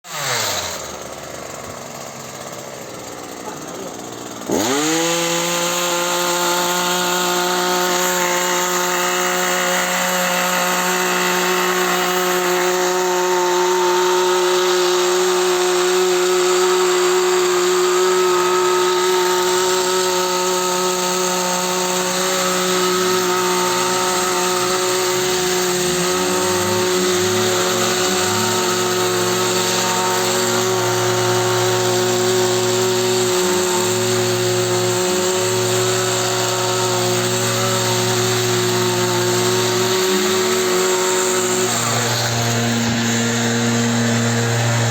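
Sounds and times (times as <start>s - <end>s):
two-stroke engine running: 0.1s - 44.9s.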